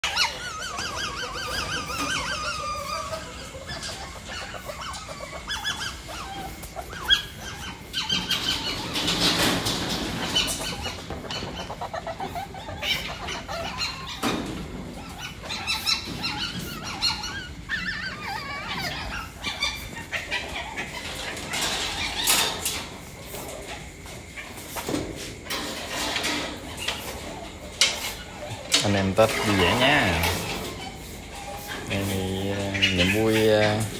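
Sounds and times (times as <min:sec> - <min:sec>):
civets squeaking and chirping: 0:00.0 - 0:33.9.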